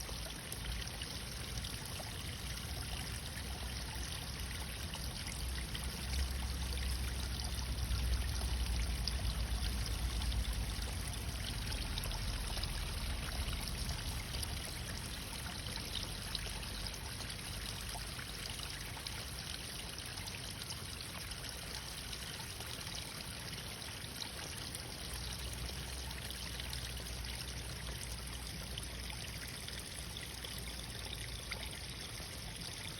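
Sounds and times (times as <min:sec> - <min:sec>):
water flowing and trickling: 0:00.0 - 0:32.9.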